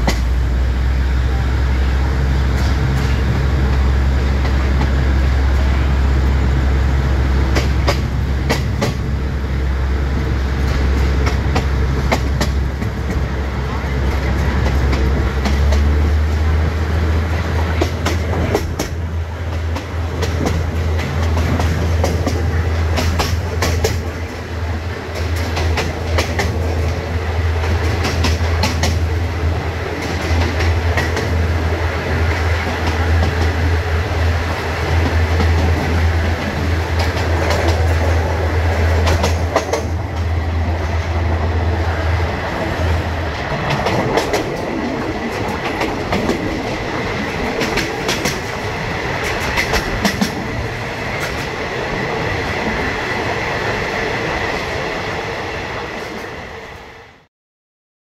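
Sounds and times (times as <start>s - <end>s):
train wheels clattering on rails: 0.0s - 0.7s, 2.3s - 54.9s.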